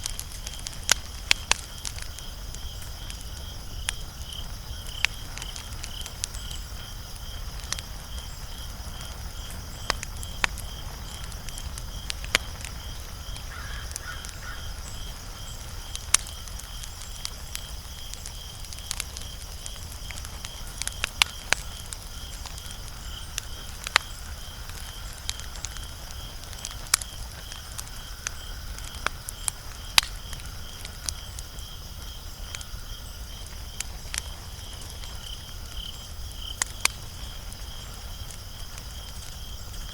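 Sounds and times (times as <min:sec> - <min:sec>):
pulsing insect chirp: 0:00.0 - 0:39.9
sharp pops of fire: 0:00.0 - 0:39.9
wood fire crackling: 0:00.0 - 0:39.9.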